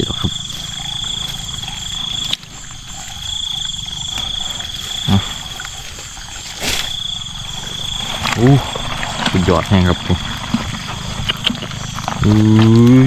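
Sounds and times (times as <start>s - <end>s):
frogs croaking: 0.0s - 13.0s
high insect trill: 0.0s - 13.0s.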